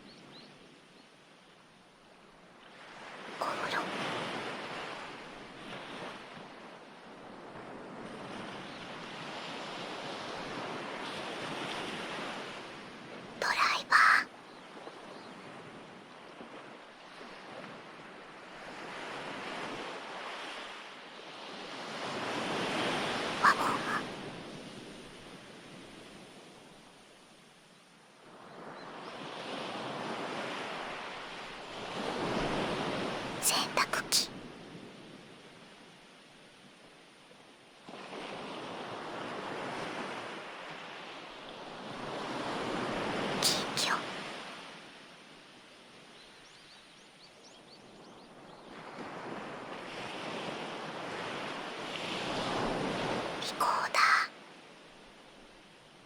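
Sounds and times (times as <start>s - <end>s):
ocean waves washing in: 2.0s - 27.6s, 28.2s - 46.1s, 48.3s - 56.0s.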